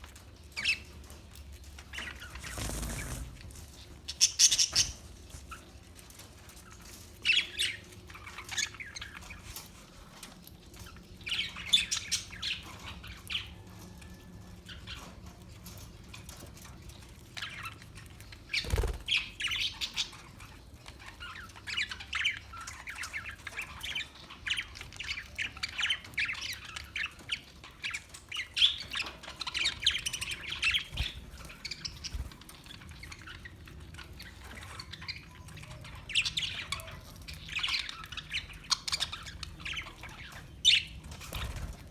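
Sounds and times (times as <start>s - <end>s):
parakeets chirping and squawking: 1.8s - 5.6s, 6.6s - 9.5s, 11.2s - 13.5s, 17.4s - 41.8s.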